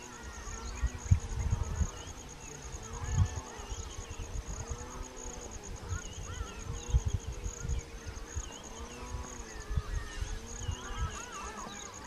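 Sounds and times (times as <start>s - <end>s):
flying insect buzzing: 0.0s - 12.0s
insect calling in high pulses: 0.0s - 12.0s.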